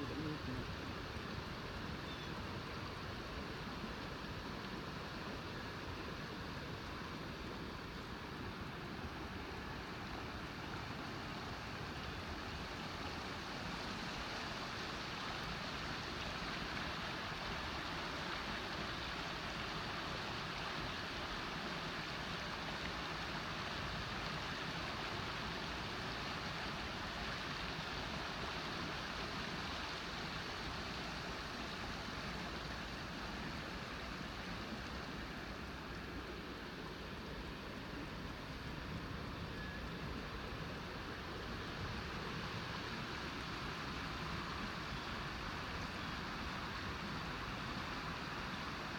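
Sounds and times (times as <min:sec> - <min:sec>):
creek water rushing over stones: 0:00.0 - 0:48.9.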